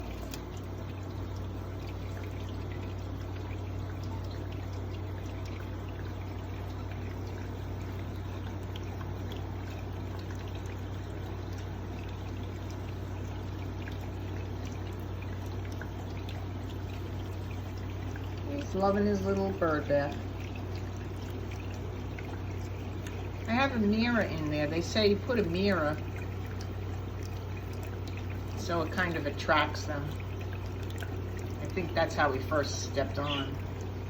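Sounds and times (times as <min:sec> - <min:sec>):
fountain water trickling: 0:00.0 - 0:34.0
low pump hum: 0:00.0 - 0:34.0.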